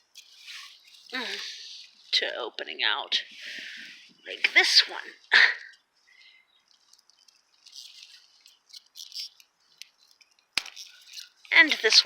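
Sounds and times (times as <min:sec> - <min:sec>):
asparagus rustling: 0:00.0 - 0:02.5, 0:03.2 - 0:12.0.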